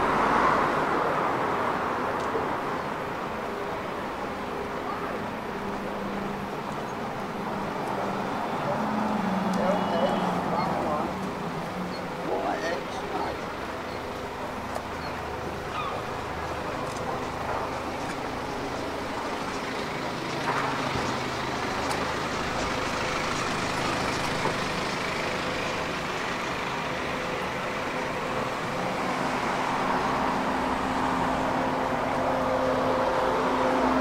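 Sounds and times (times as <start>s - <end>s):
vehicle engines running: 0.0s - 34.0s.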